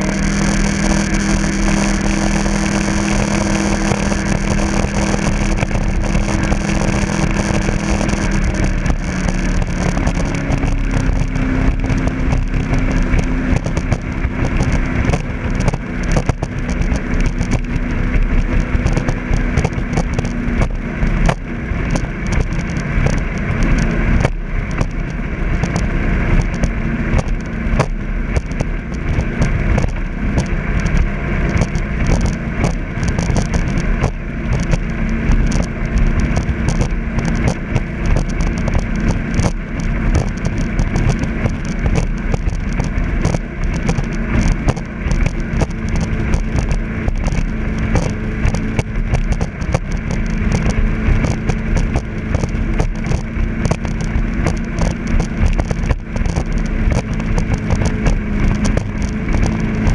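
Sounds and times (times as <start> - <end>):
boat engine droning: 0.0 - 59.9
water noise: 0.0 - 59.9
wind: 0.0 - 59.9.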